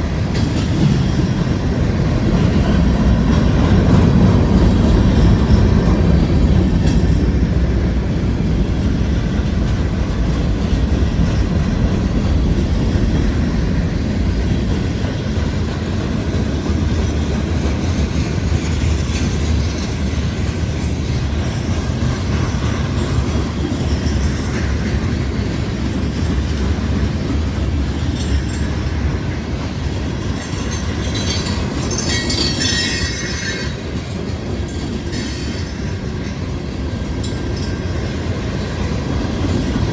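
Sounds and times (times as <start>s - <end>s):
train wheels rumbling on rails: 0.0s - 39.9s
wheels clicking over rail joints: 0.0s - 39.9s.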